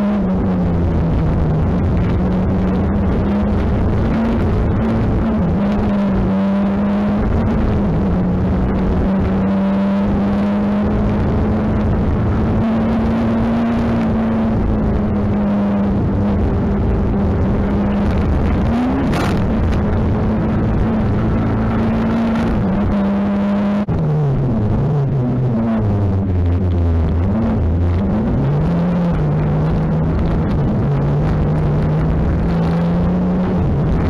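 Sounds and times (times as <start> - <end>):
gravel and road noise: 0.0 - 34.0
rally car engine: 0.0 - 34.0.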